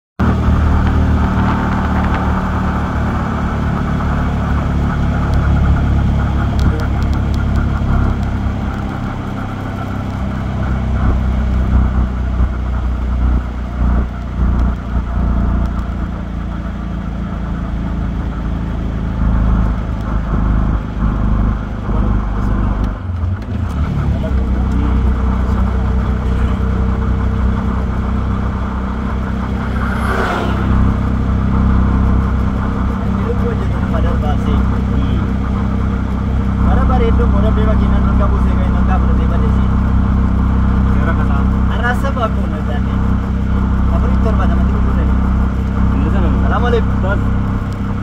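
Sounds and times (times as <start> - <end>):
vehicle engine and tyre rumble: 0.2 - 48.0.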